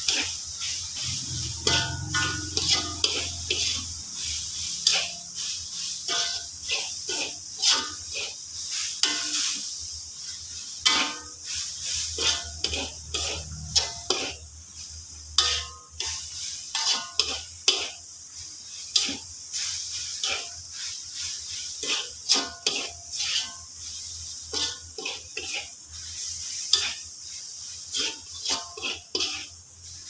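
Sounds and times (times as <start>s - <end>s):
metal spatula scraping wok: 0.0s - 30.0s
pan hissing: 0.0s - 30.0s.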